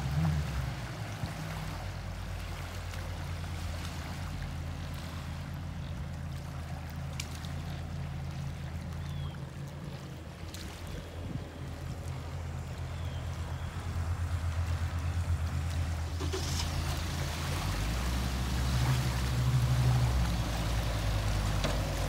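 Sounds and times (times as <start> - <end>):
jet boat engine droning: 0.0 - 22.0
water lapping against rocks: 0.0 - 22.0.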